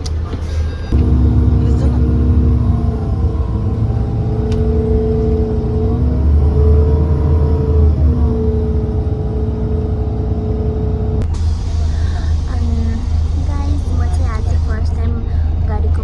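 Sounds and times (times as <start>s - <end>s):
large engine rumbling: 0.0s - 16.0s.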